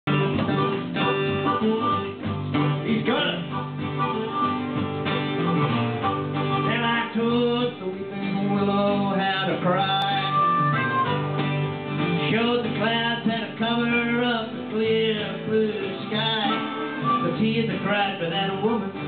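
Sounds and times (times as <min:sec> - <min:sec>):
harmonica melody: 0:00.1 - 0:12.3, 0:14.1 - 0:19.0
acoustic guitars strumming: 0:00.1 - 0:19.0.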